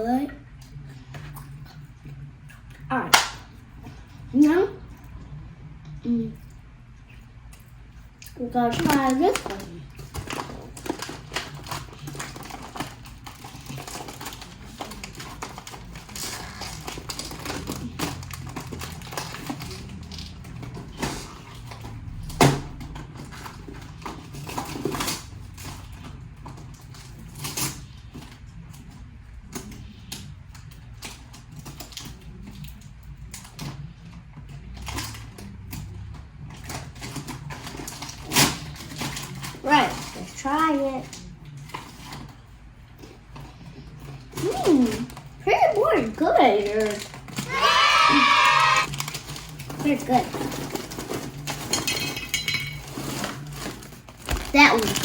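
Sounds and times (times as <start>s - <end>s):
crackers crunching: 6.4s - 45.4s, 46.0s - 55.0s.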